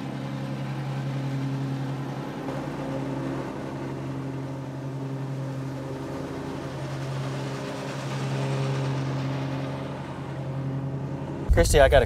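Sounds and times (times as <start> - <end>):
riding mower engine droning: 0.0 - 12.0.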